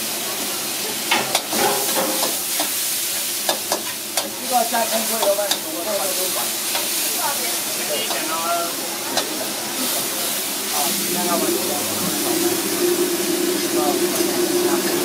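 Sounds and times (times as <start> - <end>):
onions and garlic sizzling: 0.0 - 15.0.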